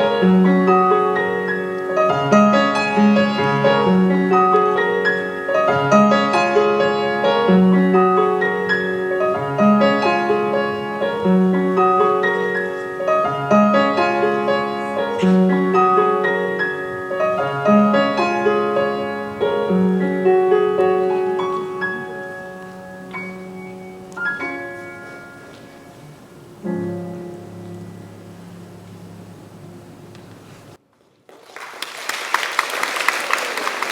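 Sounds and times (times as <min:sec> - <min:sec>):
slow gentle piano piece: 0:00.0 - 0:30.8.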